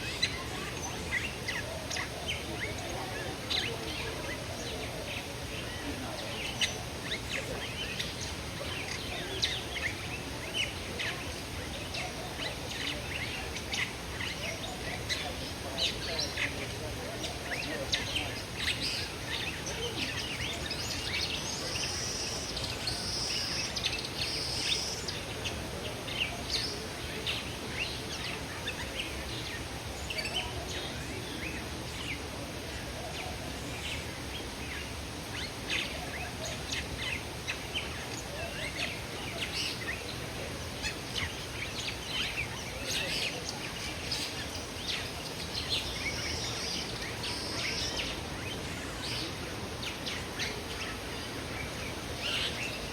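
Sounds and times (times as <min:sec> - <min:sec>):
caged birds chirping: 0:00.0 - 0:52.9
steady background noise: 0:00.0 - 0:52.9.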